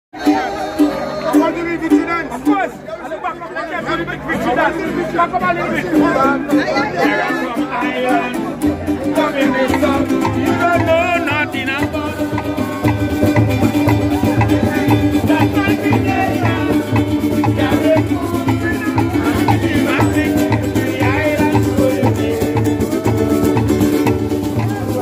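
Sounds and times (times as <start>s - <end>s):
string band playing dance tune: 3.8s - 25.0s.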